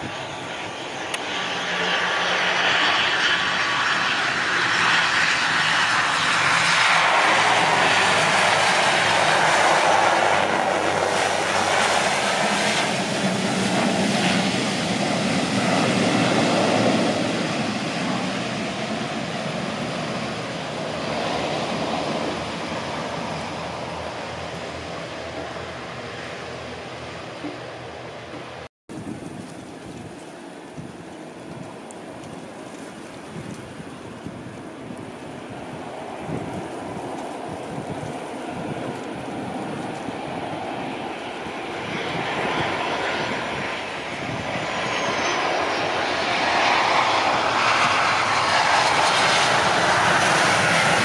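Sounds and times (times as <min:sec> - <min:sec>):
turboprop aircraft engines: 0:00.0 - 0:51.0.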